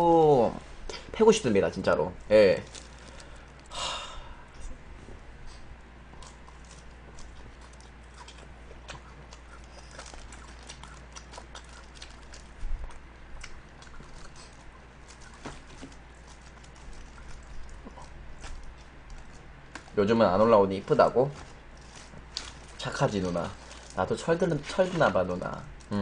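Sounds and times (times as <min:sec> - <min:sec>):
low steady hum: 0:00.0 - 0:26.0
chewing crisp lettuce: 0:01.8 - 0:03.7, 0:05.5 - 0:26.0.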